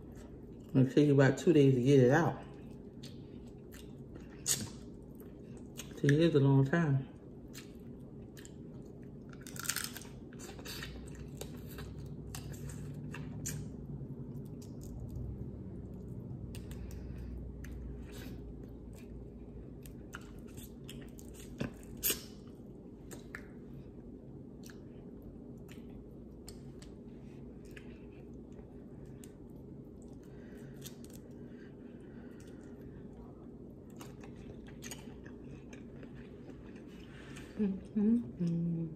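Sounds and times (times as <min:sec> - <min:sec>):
steady low hum: 0:00.0 - 0:38.9
person chewing: 0:02.4 - 0:06.2, 0:07.2 - 0:37.9.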